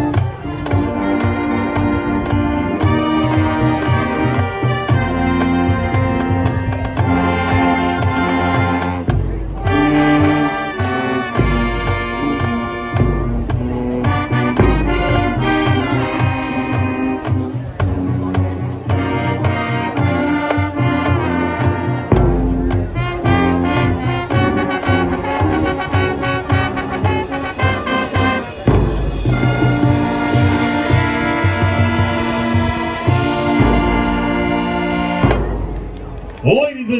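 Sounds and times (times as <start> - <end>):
marching band brass chords: 0.0 - 36.9.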